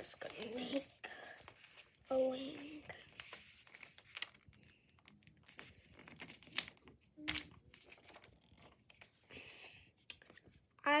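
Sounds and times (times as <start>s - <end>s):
paper crackles: 0.0s - 9.5s
paper folding and crinkling: 0.0s - 10.8s.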